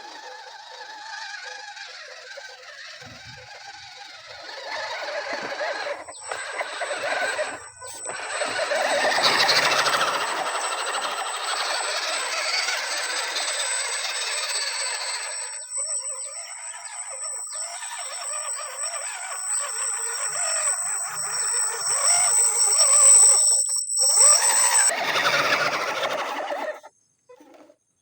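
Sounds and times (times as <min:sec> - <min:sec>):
electric motor whining: 0:00.0 - 0:26.8.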